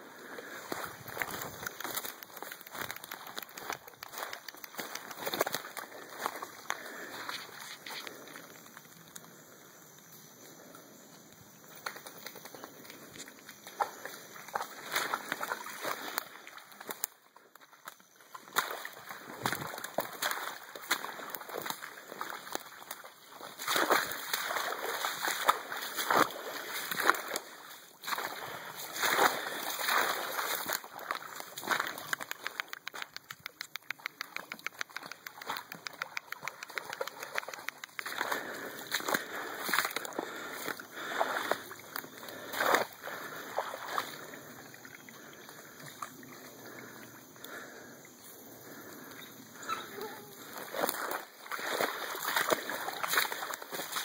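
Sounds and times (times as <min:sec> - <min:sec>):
footsteps splashing through water: 0:00.0 - 0:09.1, 0:11.6 - 0:47.9, 0:48.6 - 0:54.0.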